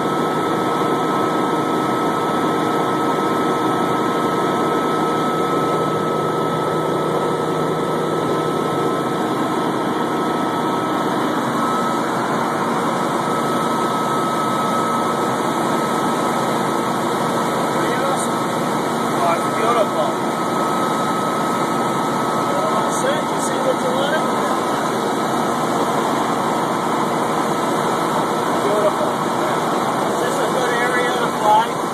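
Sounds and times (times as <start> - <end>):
helicopter engine and rotor drone: 0.0 - 31.9
high whine: 0.0 - 31.9.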